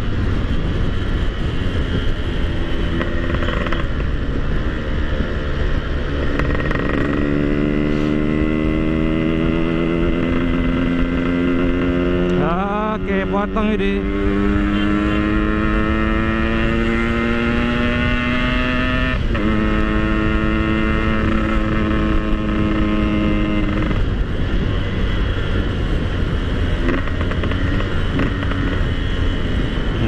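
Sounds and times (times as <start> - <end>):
motorcycle engine accelerating: 0.0 - 30.0
road noise: 0.0 - 30.0
wind noise: 0.0 - 30.0.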